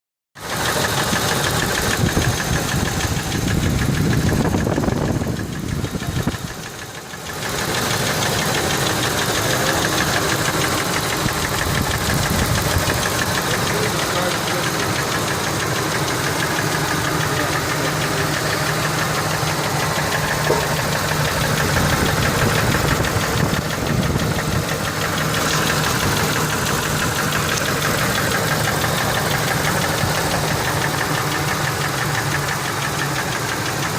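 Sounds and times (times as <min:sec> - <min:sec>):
engine knocking rattle: 0:00.4 - 0:33.9.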